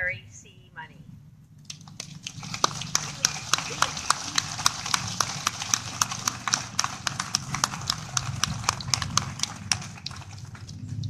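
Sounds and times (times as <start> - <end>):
small crowd applauding: 1.6 - 11.0.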